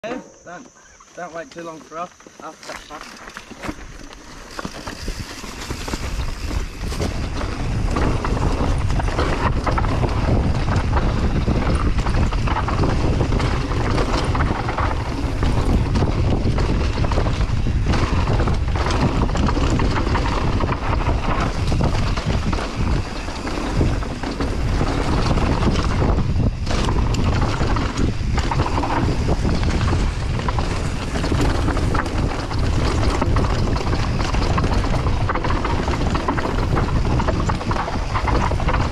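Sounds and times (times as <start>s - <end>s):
mountain bike rattling on dirt trail: 1.2s - 38.9s
wind buffeting microphone: 2.9s - 38.9s.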